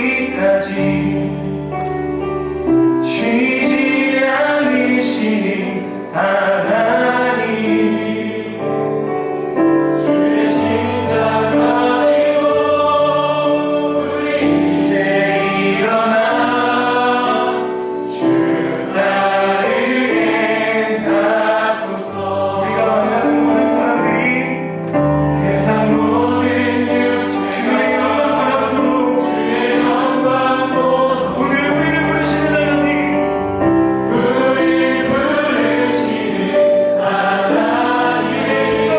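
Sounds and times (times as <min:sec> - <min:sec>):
group of vocalists singing: 0:00.0 - 0:38.9
live worship band playing: 0:00.0 - 0:38.9.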